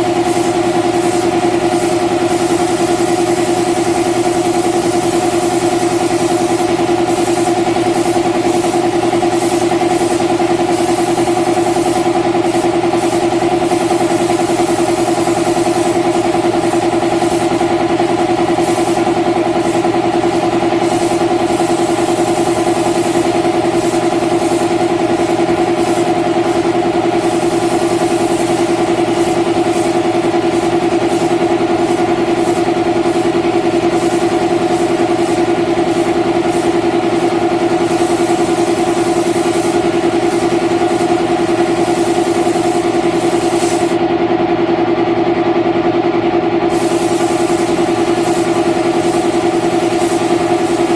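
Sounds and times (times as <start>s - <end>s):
spray gun air hissing: 0.0s - 44.0s, 46.7s - 50.9s
air compressor humming: 0.0s - 50.9s.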